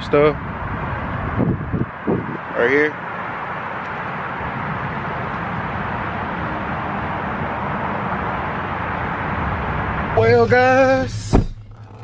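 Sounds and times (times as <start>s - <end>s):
steady vehicle noise: 0.0s - 12.0s.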